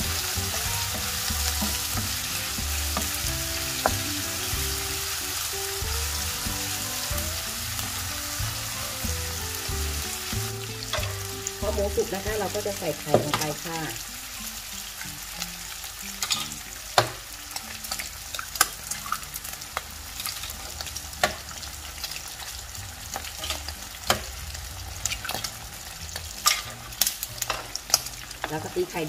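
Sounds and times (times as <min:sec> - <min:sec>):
meat sizzling in hot oil: 0:00.0 - 0:29.0.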